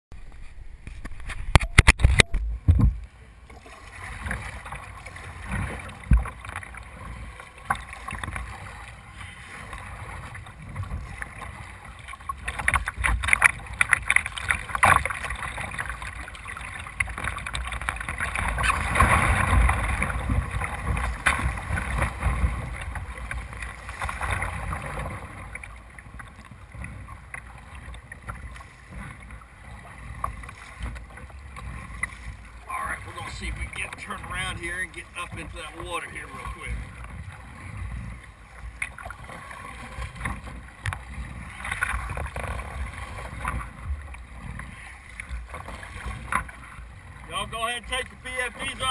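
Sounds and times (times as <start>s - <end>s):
rapids splashing against kayak hull: 0.1s - 48.9s.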